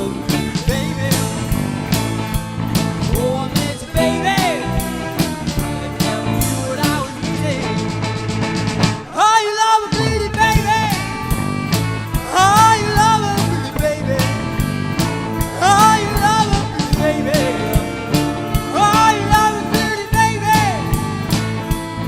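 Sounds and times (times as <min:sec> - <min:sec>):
bending guitar lead lines: 0:00.0 - 0:09.3, 0:09.9 - 0:22.0
blues band playing: 0:00.0 - 0:22.0.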